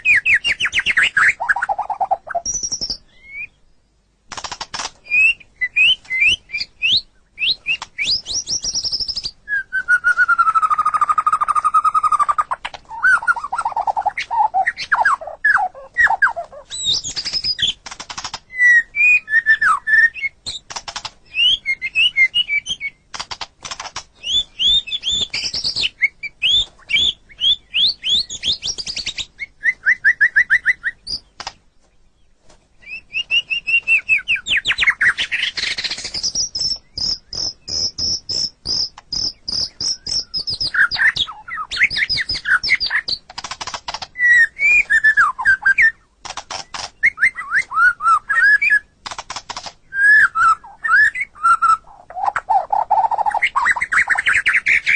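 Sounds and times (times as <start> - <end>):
songbird singing trills and whistles: 0.0 - 3.8, 5.0 - 49.0, 49.8 - 54.9.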